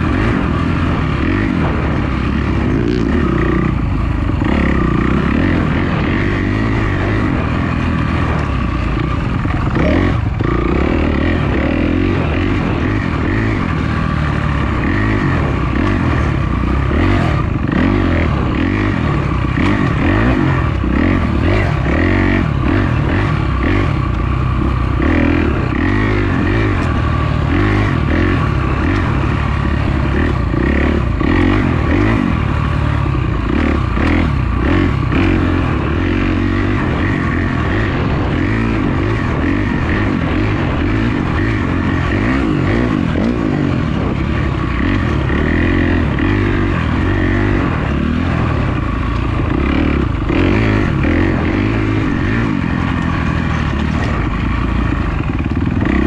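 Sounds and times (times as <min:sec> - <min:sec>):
bike rattling over ground: 0:00.0 - 0:56.0
dirt bike engine revving: 0:00.0 - 0:56.0.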